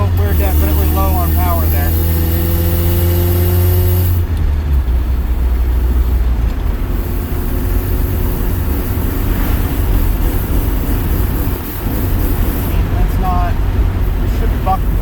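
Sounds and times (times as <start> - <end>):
car engine rumbling: 0.0 - 15.0
road noise: 0.0 - 15.0.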